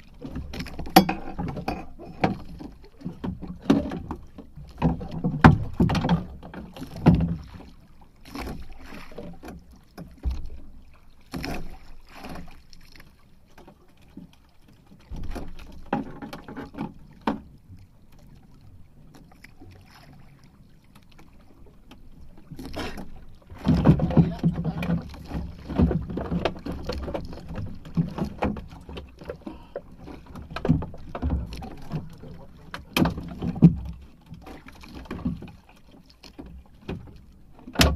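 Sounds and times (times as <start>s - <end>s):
knocks and thumps in boat: 0.0s - 37.9s
water slapping hull: 0.0s - 37.9s.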